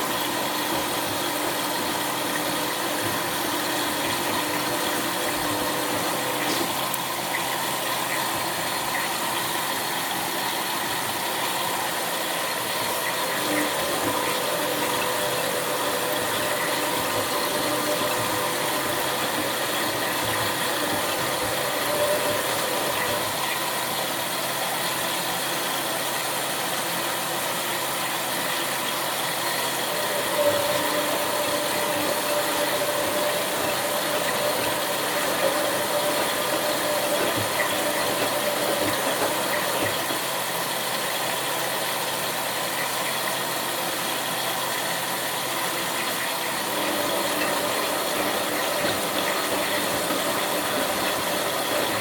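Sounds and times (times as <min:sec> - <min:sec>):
washing machine drum turning: 0:00.0 - 0:25.5, 0:28.0 - 0:52.0.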